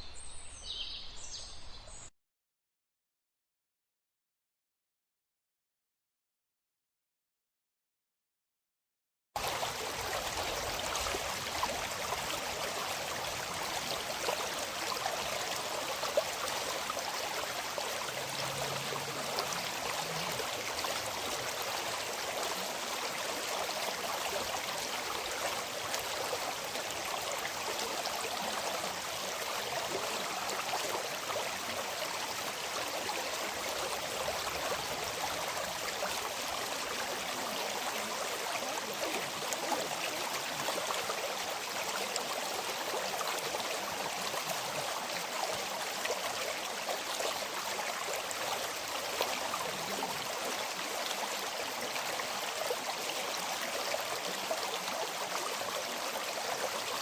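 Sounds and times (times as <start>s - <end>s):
river water flowing: 9.4s - 57.0s.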